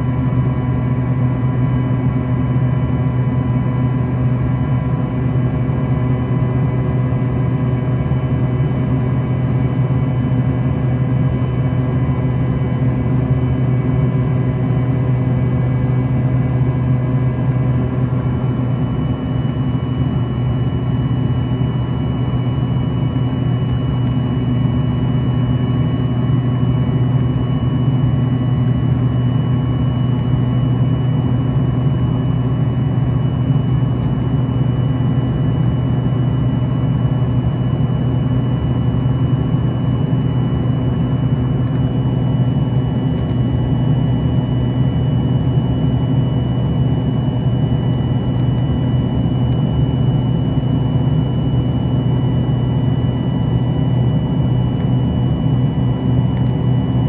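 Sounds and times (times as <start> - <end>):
jet engine drone in cabin: 0.0 - 57.0
jet engine whine: 0.0 - 57.0.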